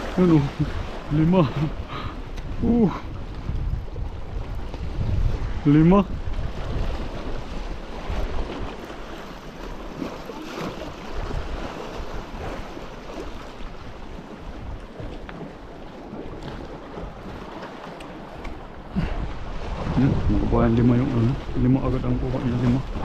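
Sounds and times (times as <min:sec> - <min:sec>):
waves washing against rocks: 0:00.0 - 0:23.0
wind buffeting microphone: 0:00.0 - 0:23.0.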